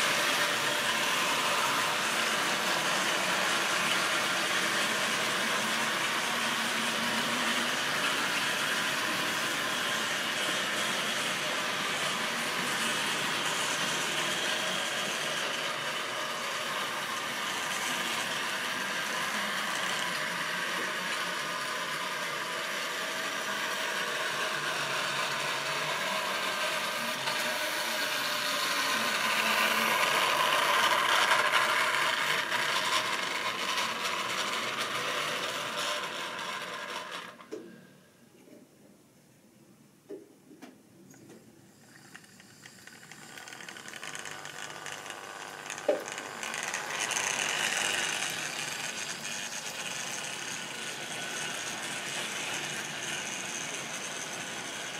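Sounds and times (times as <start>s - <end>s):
model train motor whirring: 0.0s - 37.6s, 41.7s - 54.9s.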